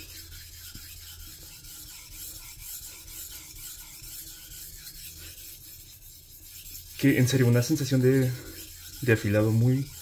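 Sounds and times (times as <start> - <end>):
knife scraping on whetstone: 0.0 - 10.0.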